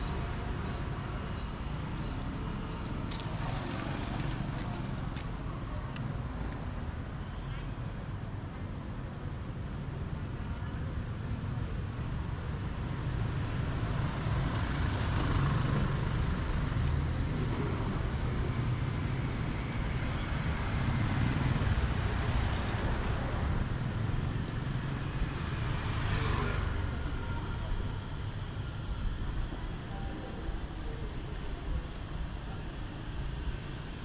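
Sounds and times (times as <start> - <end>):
passing vehicles rumbling: 0.0 - 7.0, 12.8 - 34.0.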